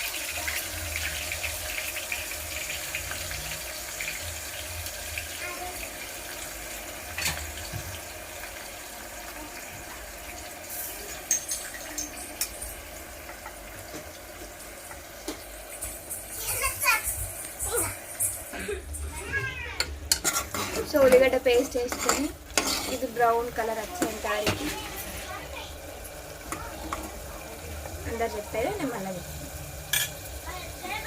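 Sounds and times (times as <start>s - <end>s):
paste sizzling in hot oil: 0.0s - 18.6s, 19.6s - 31.0s.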